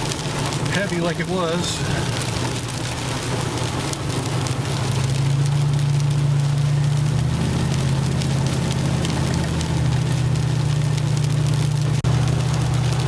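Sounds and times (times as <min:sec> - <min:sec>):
rain pattering on vehicle: 0:00.0 - 0:13.0
truck engine running under load: 0:00.0 - 0:13.0.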